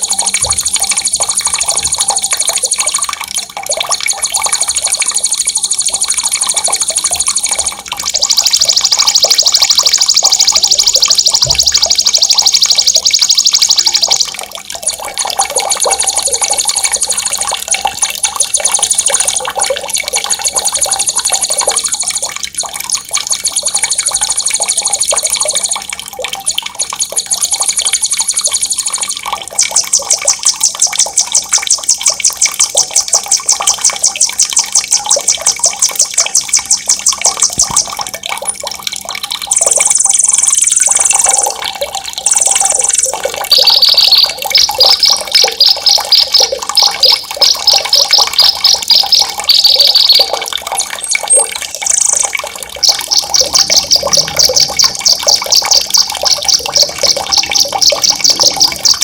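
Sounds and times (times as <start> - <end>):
running splashing water: 0.0 - 59.0.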